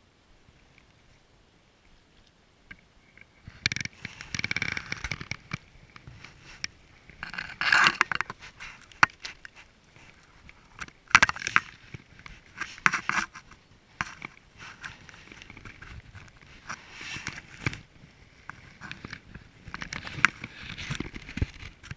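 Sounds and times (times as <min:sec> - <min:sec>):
landing net rustling in grass: 0:03.4 - 0:21.9.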